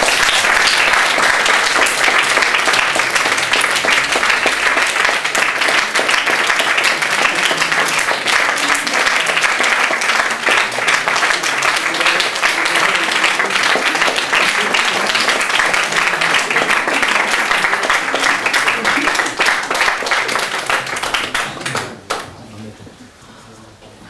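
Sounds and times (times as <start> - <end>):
audience applauding: 0.0 - 22.4.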